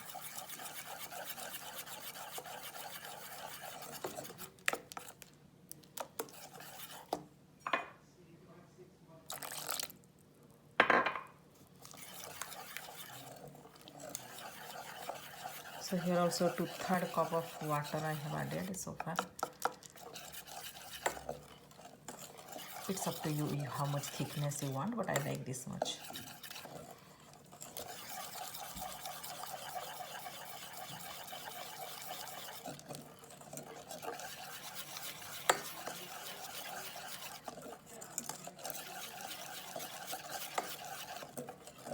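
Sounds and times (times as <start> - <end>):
batter stirred in a bowl: 0.0 - 7.4, 9.1 - 10.5, 11.5 - 41.9.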